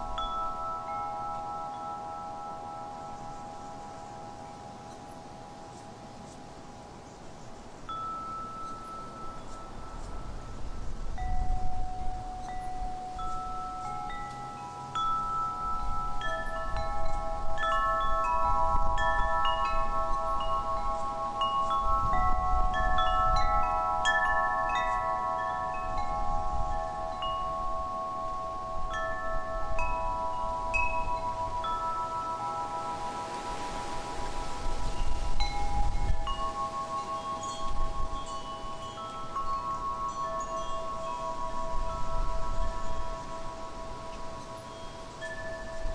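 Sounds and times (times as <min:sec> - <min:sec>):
wind chimes ringing: 0:00.0 - 0:45.9.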